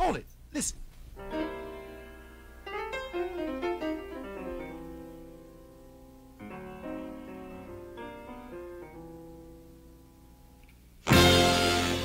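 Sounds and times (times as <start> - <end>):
soft piano music: 1.2 - 12.0.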